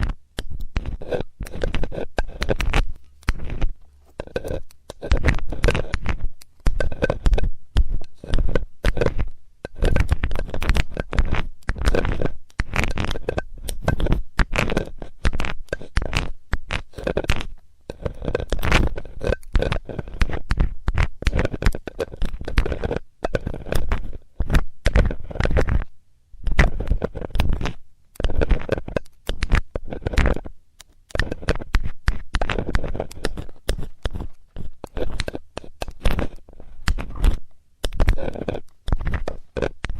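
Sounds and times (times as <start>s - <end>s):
metal tool scraping microphone: 0.0s - 30.5s, 31.1s - 39.9s.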